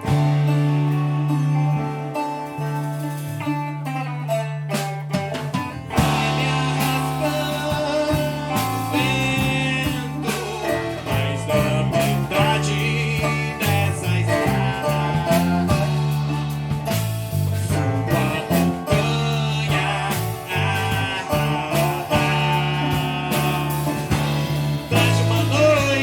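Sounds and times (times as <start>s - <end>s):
drum kit: 0.0s - 26.0s
electric bass line: 0.0s - 26.0s
live band music: 0.0s - 26.0s
strummed strings: 0.0s - 26.0s.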